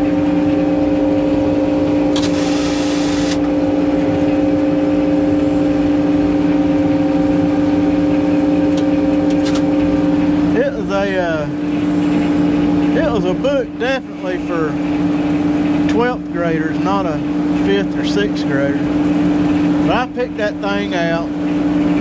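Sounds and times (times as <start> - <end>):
engine droning steadily: 0.0 - 22.0.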